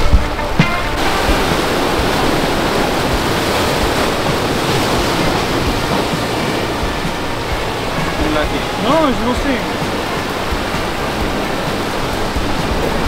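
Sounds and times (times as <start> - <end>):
surf breaking over rocks: 0.0 - 13.0.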